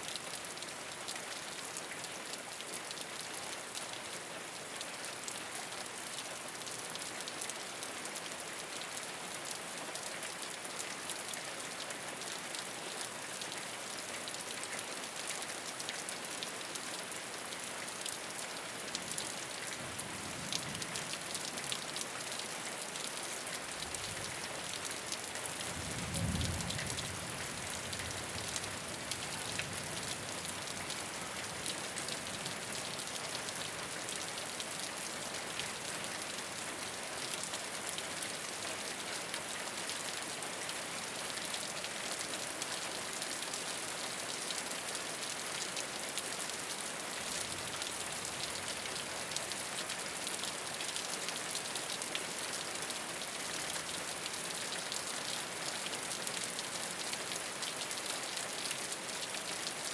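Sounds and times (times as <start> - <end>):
rain pattering on a roof: 0.0 - 59.9.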